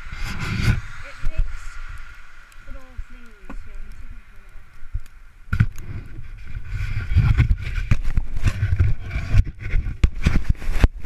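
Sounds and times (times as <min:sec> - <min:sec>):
snow crunching: 0:00.0 - 0:11.0.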